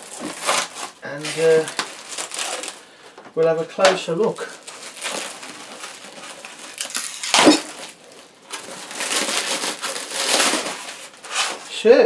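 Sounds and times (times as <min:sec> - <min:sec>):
cellophane crinkling: 0:00.0 - 0:11.8.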